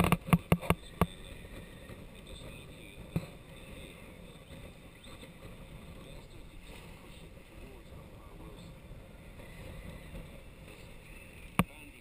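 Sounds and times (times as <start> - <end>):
water and wind along hull: 0.0 - 12.0.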